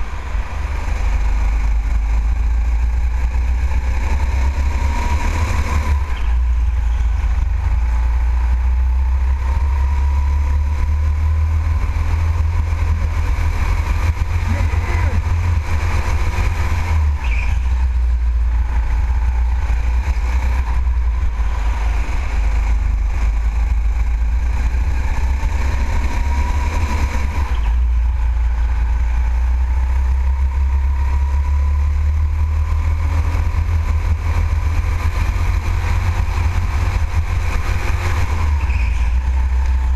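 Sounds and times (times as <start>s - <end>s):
go-kart engine rumbling and whining: 0.0s - 39.9s.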